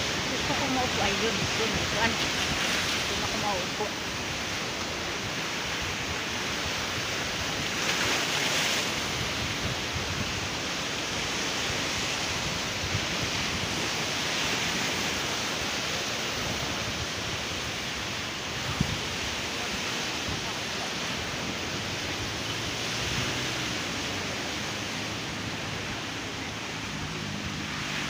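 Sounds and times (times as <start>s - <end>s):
sea surf breaking: 0.0s - 28.0s
wind buffeting microphone: 0.0s - 28.0s.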